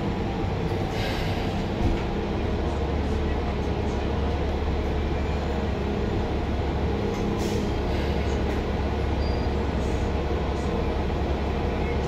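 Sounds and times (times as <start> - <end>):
bus engine rumble and road noise: 0.0 - 12.0.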